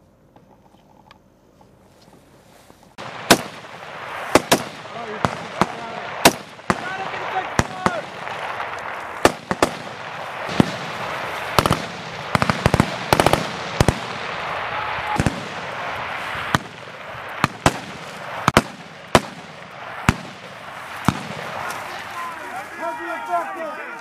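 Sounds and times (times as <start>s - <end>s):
steady background hiss: 0.0s - 24.0s
rifle shots: 3.0s - 22.6s.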